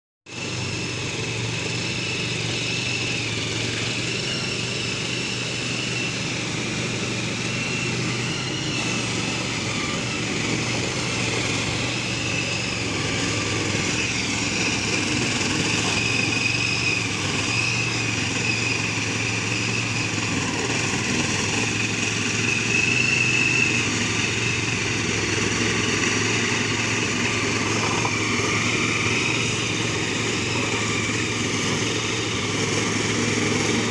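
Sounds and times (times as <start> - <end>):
hand tractor engine running: 0.3 - 33.9.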